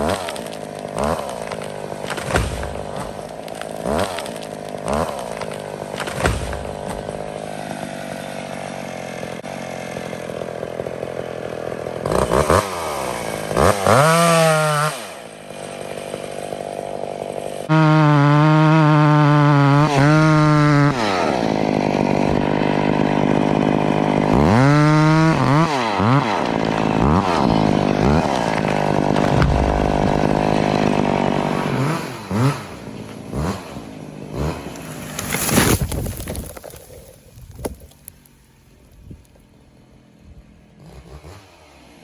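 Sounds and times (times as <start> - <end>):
chainsaw revving and idling: 0.0 - 38.6, 39.8 - 42.0.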